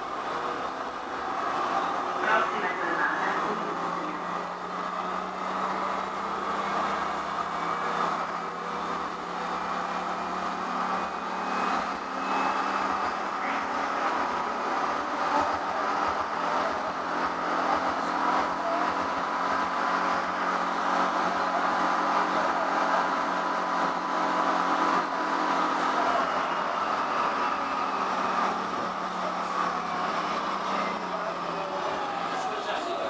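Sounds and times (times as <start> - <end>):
tram wheels rolling on rail: 0.0 - 33.0.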